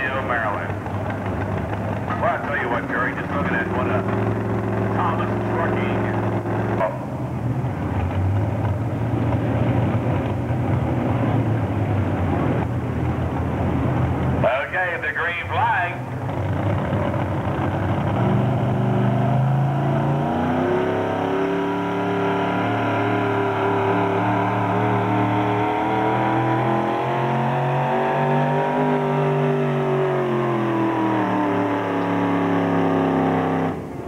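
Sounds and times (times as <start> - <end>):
supercharged truck engine revving: 0.0 - 14.4, 16.1 - 34.0.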